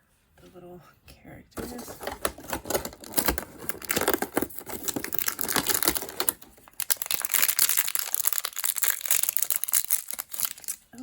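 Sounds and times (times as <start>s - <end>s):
plastic bag crinkling: 1.6s - 11.0s.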